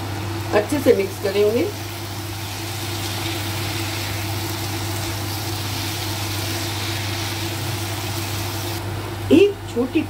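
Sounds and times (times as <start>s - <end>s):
food sizzling while stirred: 0.4s - 8.8s.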